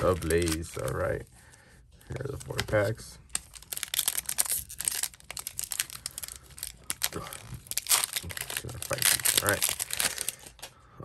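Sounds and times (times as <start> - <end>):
foil wrapper crinkling and tearing: 0.0 - 1.2, 2.0 - 10.7.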